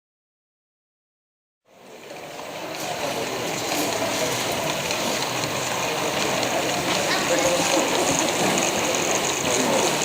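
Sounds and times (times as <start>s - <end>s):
mixed background noise: 1.7s - 10.0s.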